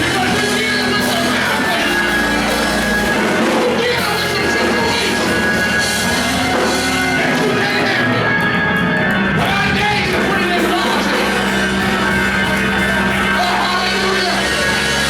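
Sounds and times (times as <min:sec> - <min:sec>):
live band music with singing: 0:00.0 - 0:15.0.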